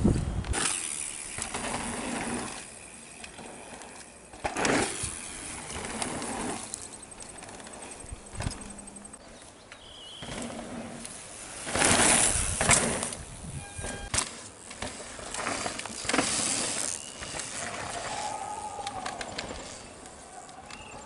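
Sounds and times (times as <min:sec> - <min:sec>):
bike tyres skidding on gravel: 0:00.0 - 0:09.1, 0:09.8 - 0:21.0.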